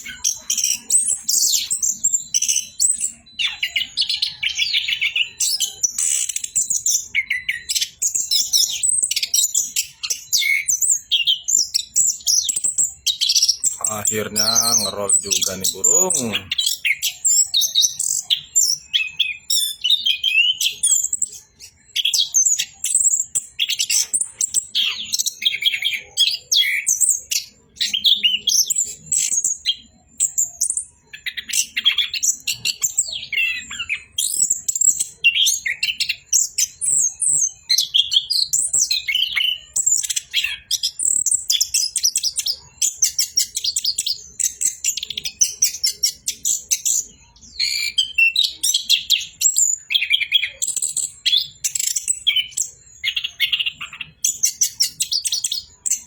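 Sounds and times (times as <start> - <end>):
thrush singing chirps and trills: 0.0 - 56.0.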